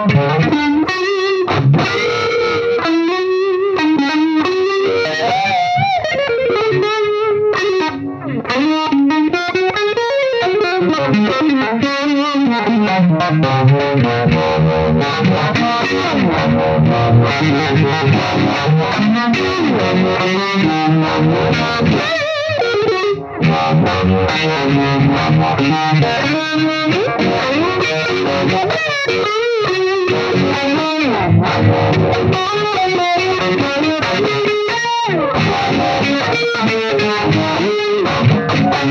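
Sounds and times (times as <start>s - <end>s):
distorted electric guitar with vibe effect: 0.0s - 38.9s.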